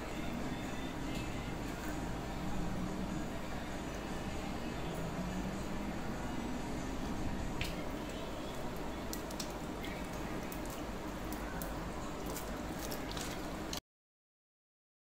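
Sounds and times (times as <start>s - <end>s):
low background noise: 0.0s - 13.8s.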